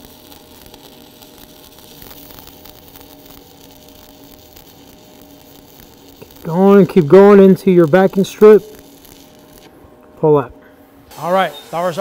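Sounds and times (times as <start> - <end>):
welding arc hissing and crackling: 0.0 - 12.0.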